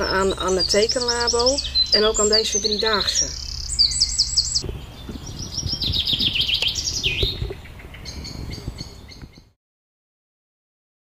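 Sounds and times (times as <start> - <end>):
birds trilling: 0.0 - 9.6.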